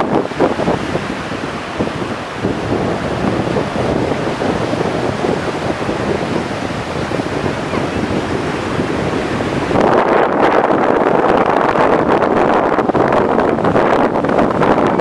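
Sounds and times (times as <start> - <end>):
ocean surf washing in: 0.0 - 15.0
wind buffeting microphone: 0.0 - 15.0.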